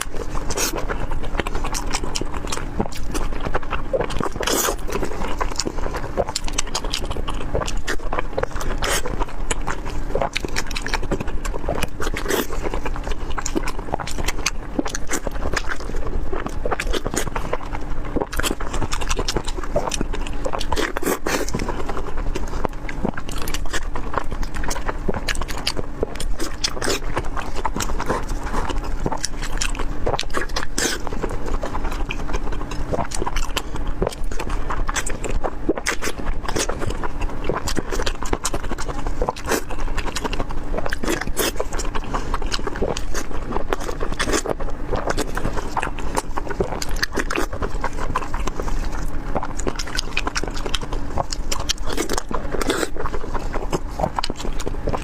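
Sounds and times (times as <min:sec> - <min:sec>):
crunching and chewing fried food: 0:00.0 - 0:55.0.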